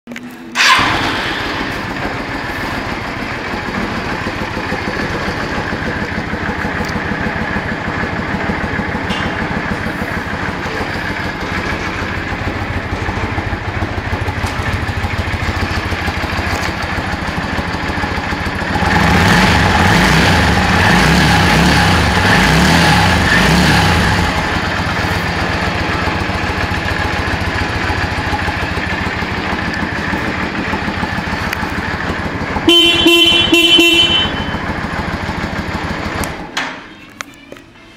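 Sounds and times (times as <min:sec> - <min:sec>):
motorcycle engine idling: 0:00.5 - 0:37.4.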